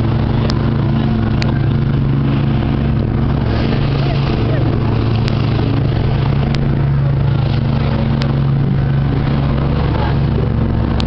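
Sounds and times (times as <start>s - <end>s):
boat engine droning: 0.0s - 11.0s
water and wind hiss: 0.0s - 11.0s.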